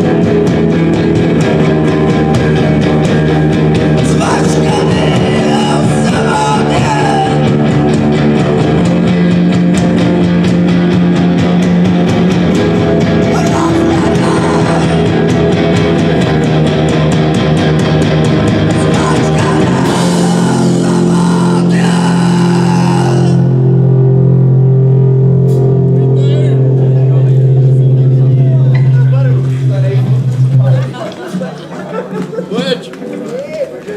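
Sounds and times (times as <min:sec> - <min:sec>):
electric guitar: 0:00.0 - 0:33.9
live rock band playing: 0:00.0 - 0:33.9.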